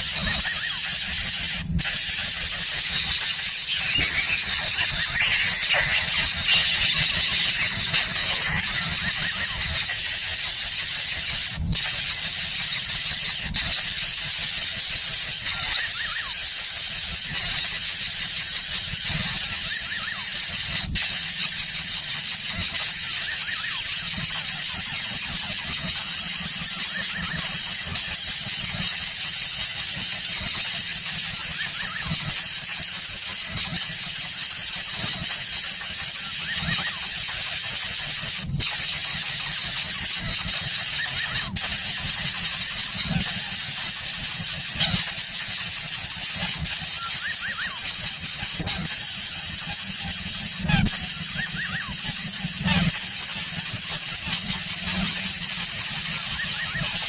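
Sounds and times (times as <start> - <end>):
high-pitched hiss: 0.0 - 57.0.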